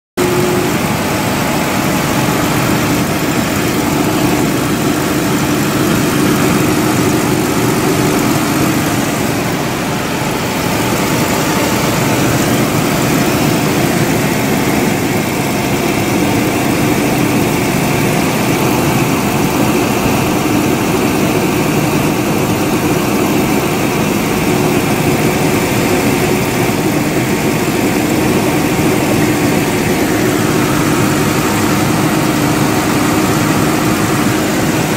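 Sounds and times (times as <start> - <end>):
engine running steadily: 0.2 - 34.9.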